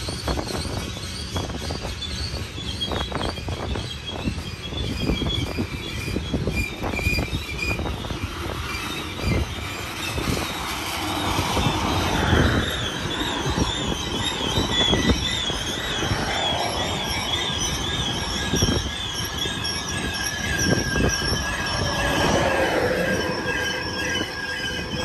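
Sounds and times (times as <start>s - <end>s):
high wavering wheel squeal: 0.0s - 25.0s
train wheels clacking on rails: 0.0s - 25.0s.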